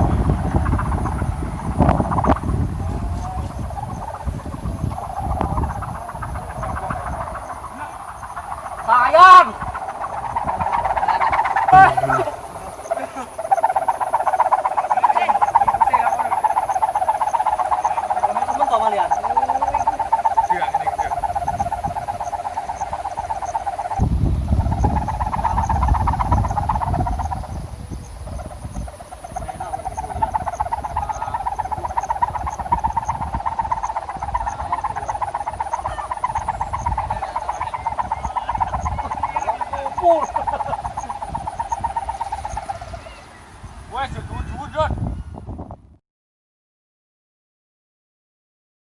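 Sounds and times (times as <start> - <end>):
kite hummer buzzing drone: 0.0 - 45.7
wind rumble on microphone: 0.0 - 46.0.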